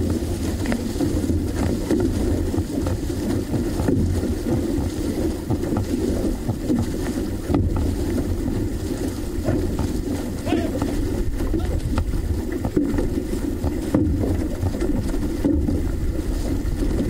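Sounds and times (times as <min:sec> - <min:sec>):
paddle splashes: 0:00.0 - 0:17.0
water rushing along hull: 0:00.0 - 0:17.0
wind buffeting microphone: 0:00.0 - 0:17.0.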